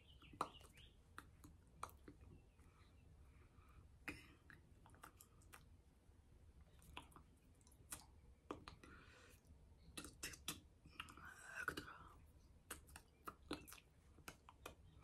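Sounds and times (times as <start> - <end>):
low room hum: 0.0 - 15.0
faint short clicks and smacks: 0.1 - 2.7, 4.1 - 5.8, 6.6 - 15.0.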